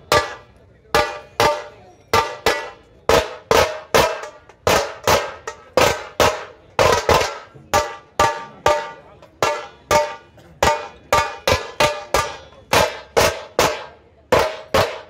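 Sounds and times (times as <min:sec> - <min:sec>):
heavy drum strikes: 0:00.0 - 0:15.0.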